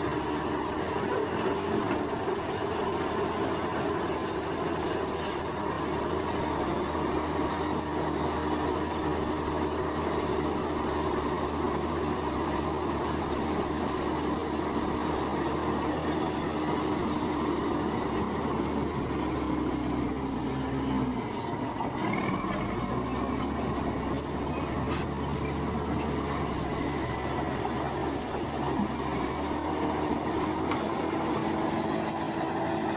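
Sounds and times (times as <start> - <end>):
heavy diesel engine under load: 0.0 - 32.9.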